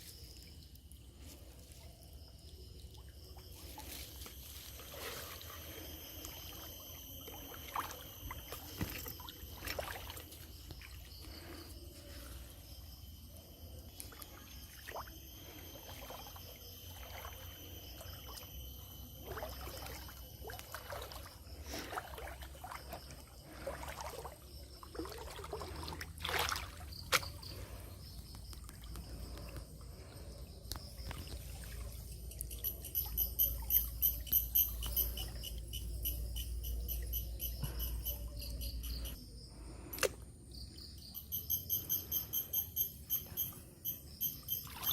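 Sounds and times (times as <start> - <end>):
river water splashing and trickling: 0.0 - 36.3, 43.3 - 44.9
insect pulsing call: 0.0 - 44.9.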